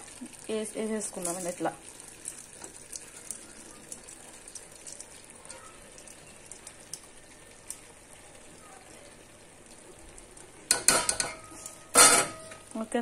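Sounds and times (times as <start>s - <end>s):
rice being spooned into pot: 1.0s - 12.8s.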